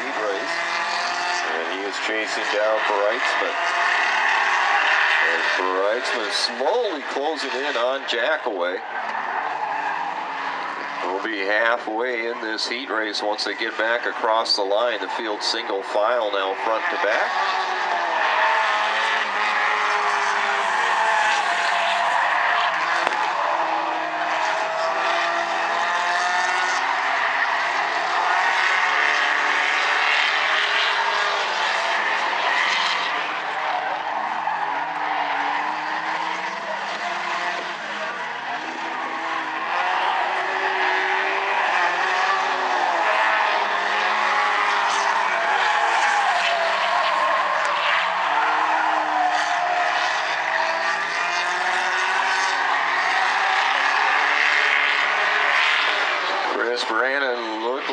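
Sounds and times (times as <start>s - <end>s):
race car engines: 0.0s - 57.9s.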